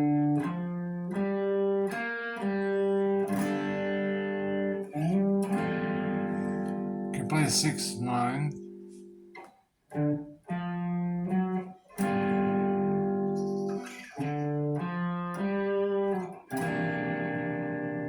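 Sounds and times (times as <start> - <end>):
electric guitar chord riff: 0.0 - 18.0.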